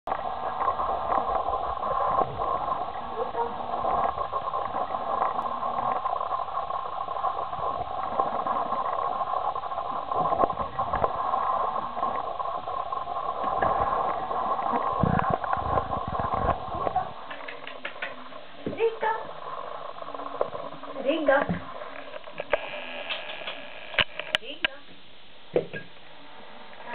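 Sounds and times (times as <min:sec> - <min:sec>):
steady background hum: 0:00.1 - 0:26.9.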